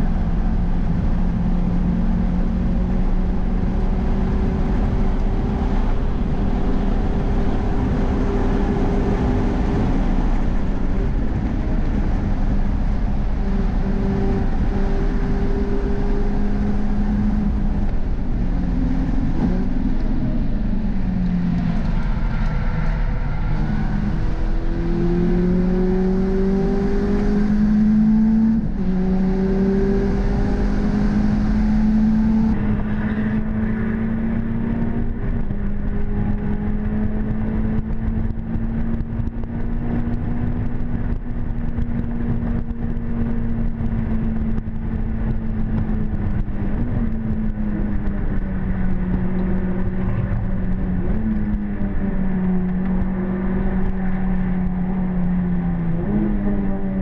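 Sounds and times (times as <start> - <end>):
car engine revving: 0.0 - 57.0
gear change: 0.0 - 57.0
wind and road noise: 0.0 - 57.0.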